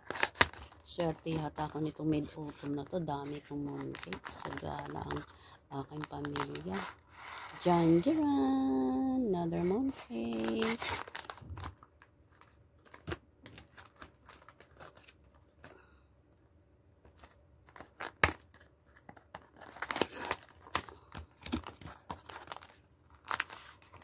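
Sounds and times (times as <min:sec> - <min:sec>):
plastic wrapping crinkling: 0:00.0 - 0:15.8, 0:17.0 - 0:24.0.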